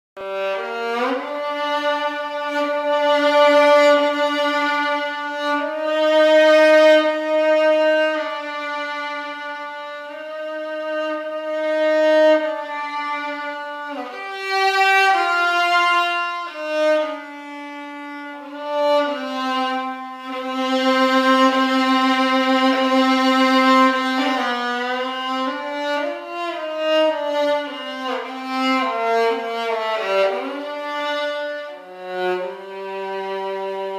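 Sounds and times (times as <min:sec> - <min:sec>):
bowed string instrument melody: 0:00.2 - 0:33.9.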